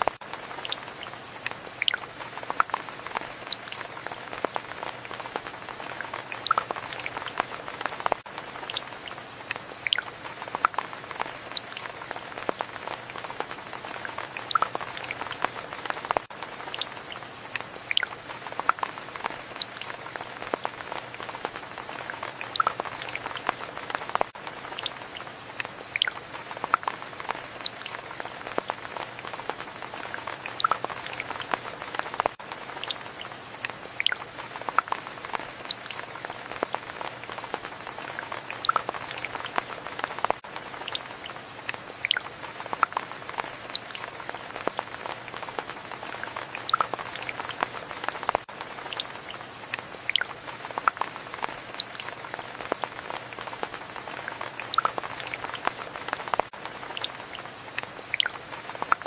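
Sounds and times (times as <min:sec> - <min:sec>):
raindrops tapping on surface: 0:00.0 - 0:59.0
steady rain: 0:00.0 - 0:59.0.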